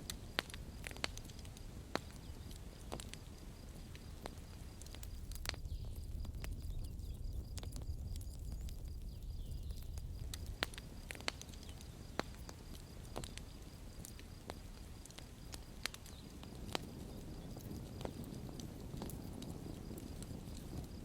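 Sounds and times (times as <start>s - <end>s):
campfire crackling: 0.0s - 21.0s
fire pops and snaps: 0.0s - 21.0s.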